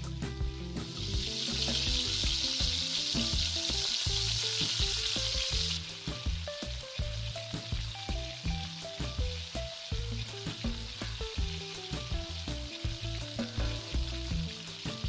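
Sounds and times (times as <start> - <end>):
meat frying in hot oil: 0.0 - 15.0
music with low sustained notes: 0.0 - 15.0.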